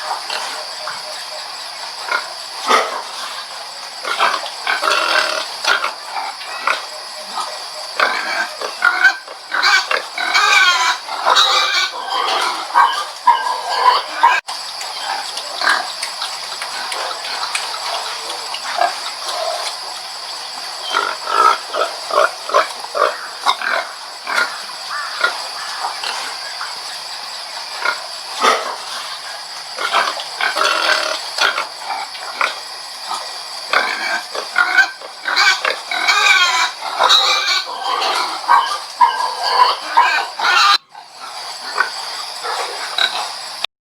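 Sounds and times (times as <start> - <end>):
pig calls: 0.0 - 15.9, 20.8 - 27.1, 27.7 - 43.6.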